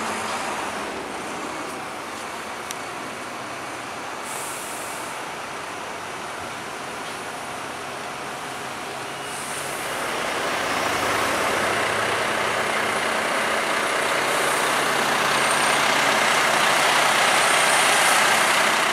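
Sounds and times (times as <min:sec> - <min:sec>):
bus driving past: 0:00.0 - 0:18.9.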